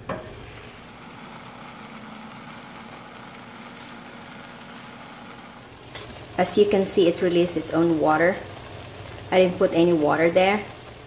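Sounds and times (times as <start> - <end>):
squid sizzling in a pot: 0.2 - 11.0.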